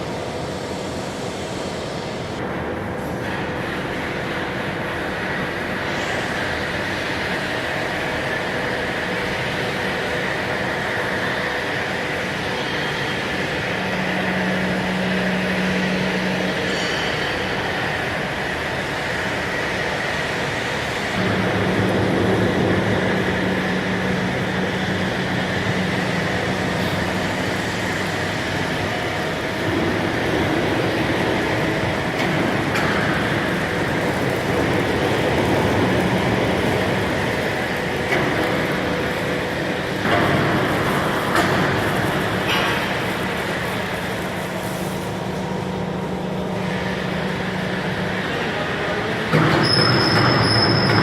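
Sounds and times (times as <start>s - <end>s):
press brake machine running: 0.0s - 51.0s.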